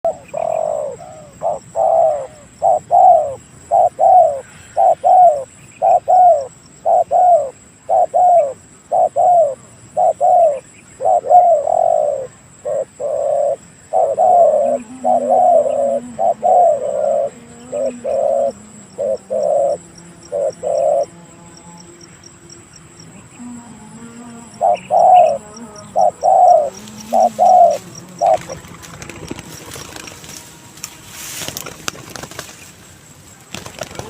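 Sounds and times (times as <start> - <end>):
dove cooing: 0.0 - 21.2, 23.2 - 30.4.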